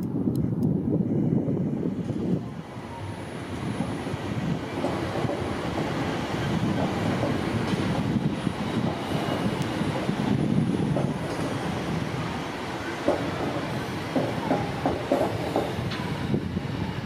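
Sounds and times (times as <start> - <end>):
train wheels rumbling on rails: 0.1 - 17.0.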